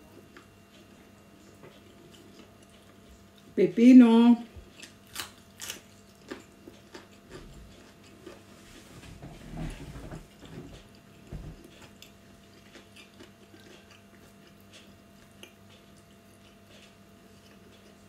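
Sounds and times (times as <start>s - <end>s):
chewing crunchy cucumber: 0.0s - 3.6s, 4.6s - 8.6s, 9.5s - 18.0s.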